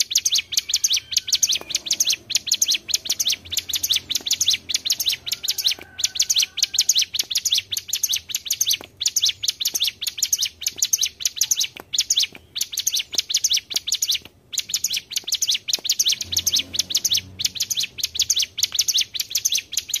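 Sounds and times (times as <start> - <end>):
bird song of sharp notes: 0.0 - 20.0.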